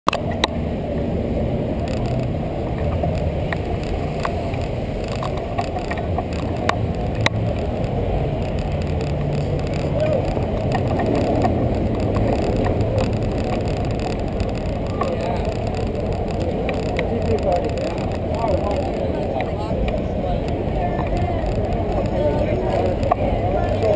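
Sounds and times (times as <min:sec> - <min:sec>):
road rumble: 0:00.0 - 0:23.9
wind on microphone: 0:00.1 - 0:23.9
bicycle clicks and rattles: 0:01.8 - 0:23.9.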